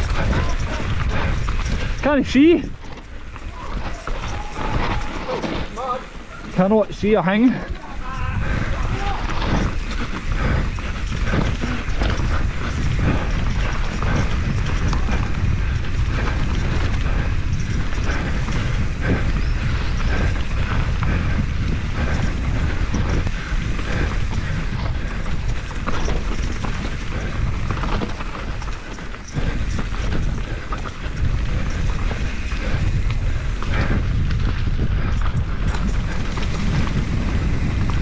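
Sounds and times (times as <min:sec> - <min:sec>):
bike tyres on rough trail: 0:00.0 - 0:38.0
chain and suspension rattling: 0:00.0 - 0:38.0
wind rumbling on microphone: 0:00.0 - 0:38.0.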